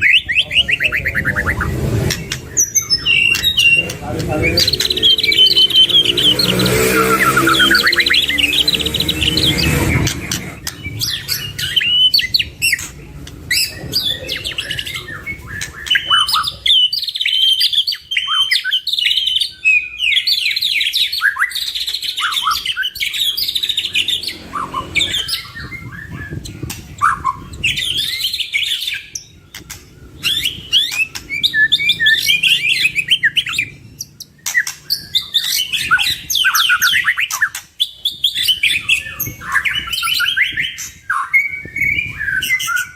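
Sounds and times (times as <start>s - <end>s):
bird song with whistles and trills: 0.0s - 42.9s.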